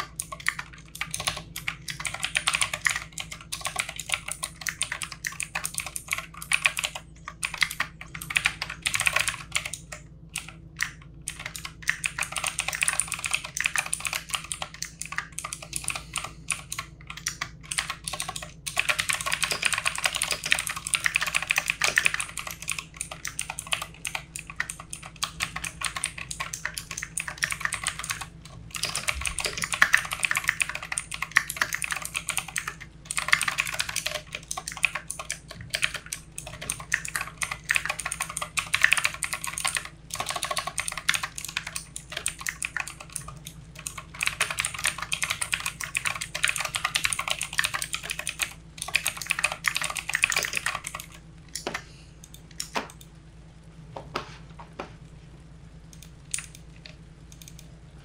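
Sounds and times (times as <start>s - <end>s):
mechanical keyboard typing: 0.0s - 53.1s, 55.9s - 57.7s.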